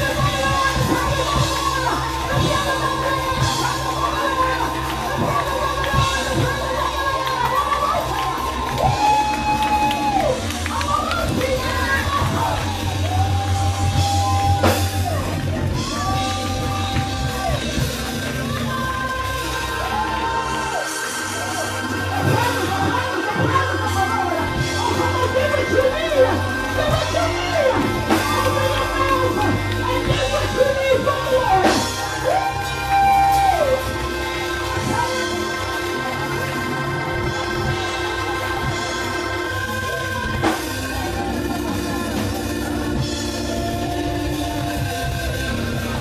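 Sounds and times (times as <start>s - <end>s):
congregation shouting: 0.0s - 46.0s
live church music with drums: 0.0s - 46.0s.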